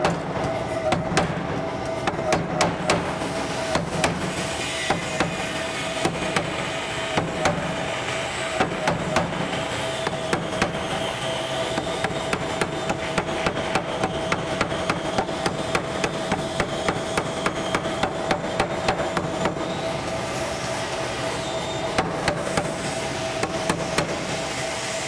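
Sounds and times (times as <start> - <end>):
power hammer striking hot steel: 0.0 - 20.2, 21.4 - 25.0
steady hum: 0.0 - 25.0.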